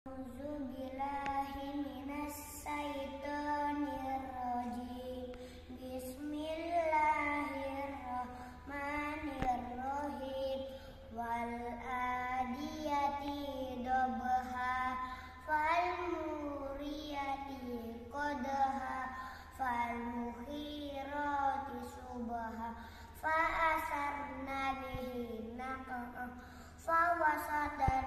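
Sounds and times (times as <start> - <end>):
boy chanting recitation: 0.1 - 28.0
faint low hum: 0.1 - 28.0.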